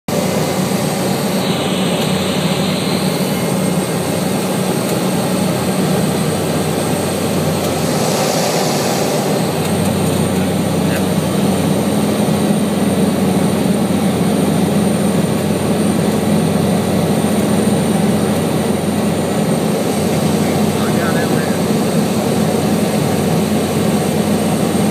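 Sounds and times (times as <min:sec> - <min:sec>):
propeller aircraft cabin drone: 0:00.1 - 0:24.9.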